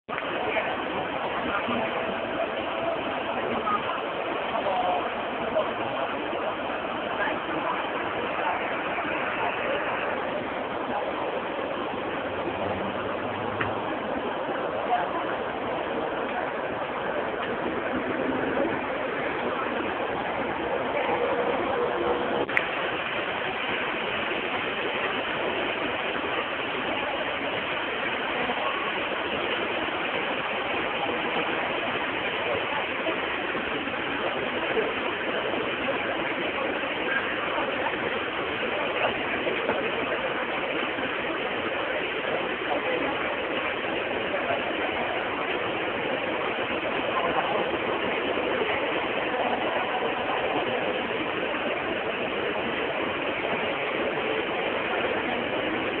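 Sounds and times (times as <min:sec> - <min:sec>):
crowd hubbub: 0:00.0 - 0:56.0.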